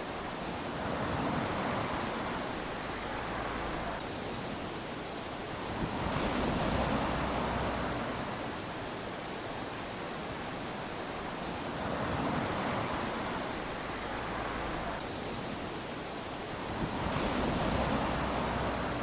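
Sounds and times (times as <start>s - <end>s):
small waves lapping on sand: 0.0s - 19.0s.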